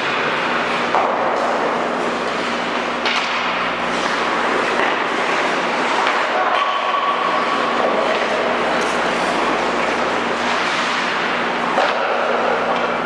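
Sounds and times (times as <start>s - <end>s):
skates on ice: 0.9s - 12.9s.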